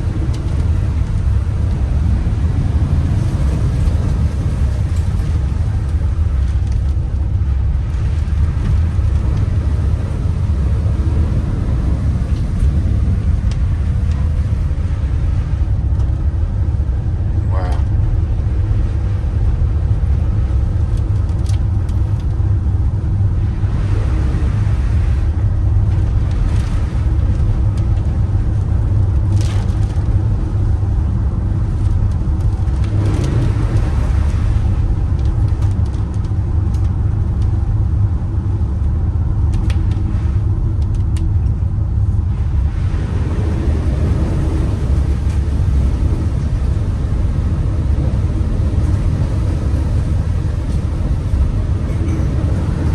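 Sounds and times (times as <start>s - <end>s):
vehicle driving rumble: 0.0s - 52.9s.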